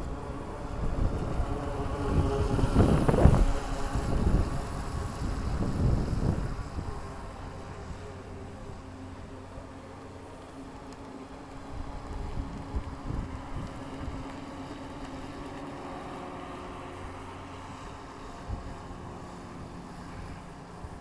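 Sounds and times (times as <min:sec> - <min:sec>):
wind buffeting microphone: 0:00.0 - 0:08.8, 0:10.6 - 0:21.0
distant electric boat motor: 0:00.0 - 0:21.0.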